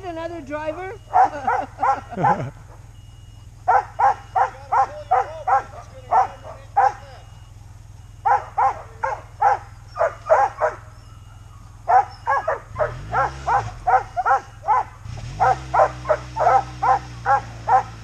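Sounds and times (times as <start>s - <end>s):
low motor hum: 0.0s - 18.0s
dogs barking and yipping: 0.6s - 18.0s.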